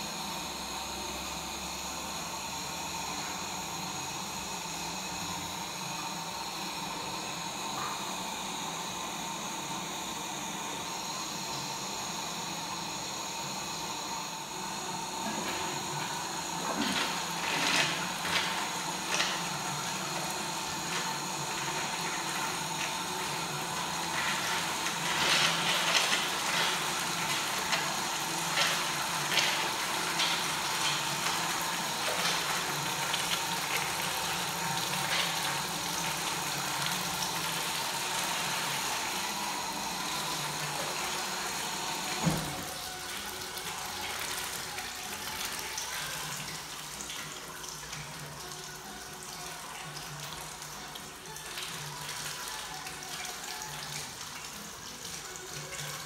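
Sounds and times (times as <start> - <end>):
urinals flushing: 0.0 - 56.0.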